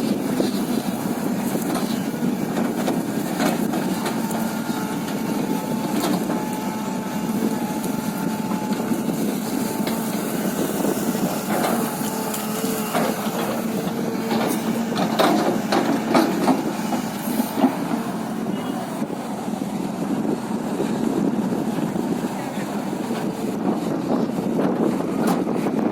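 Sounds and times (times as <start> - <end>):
excavator engine whining: 0.0 - 25.9.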